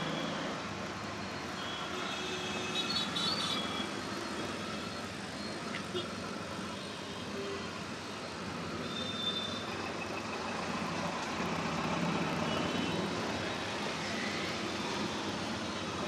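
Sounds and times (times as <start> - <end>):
city traffic engines: 0.0 - 16.0.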